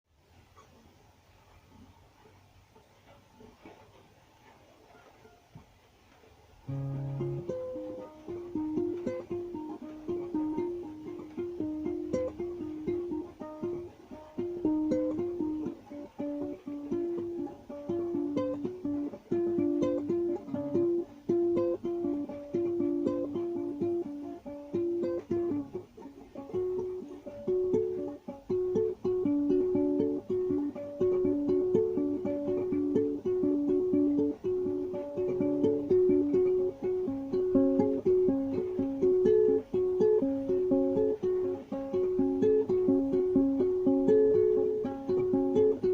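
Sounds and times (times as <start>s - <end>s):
plucked string instrument melody: 6.6s - 45.9s.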